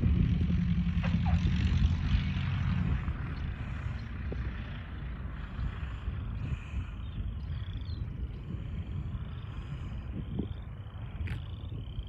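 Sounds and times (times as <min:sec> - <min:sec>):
small airplane engine and propeller: 0:00.0 - 0:12.0.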